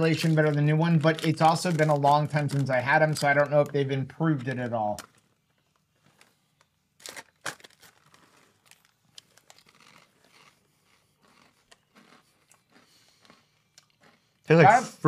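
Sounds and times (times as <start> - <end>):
plastic snack bag crinkling: 0.0 - 14.2.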